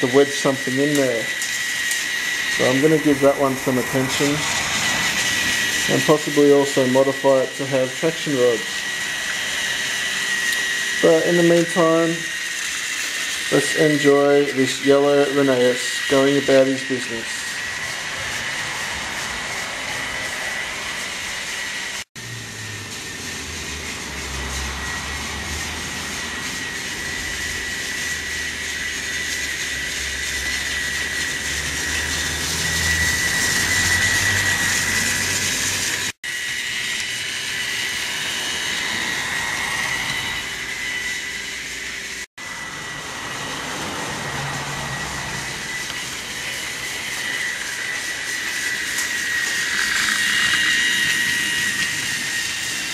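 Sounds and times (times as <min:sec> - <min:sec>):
toy train motor whine: 0:00.0 - 0:52.9.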